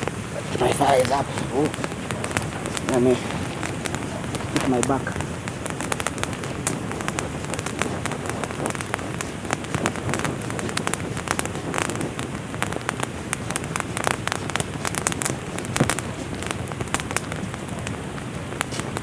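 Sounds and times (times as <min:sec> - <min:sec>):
rain falling: 0:00.0 - 0:19.0
raindrops ticking: 0:00.0 - 0:19.0.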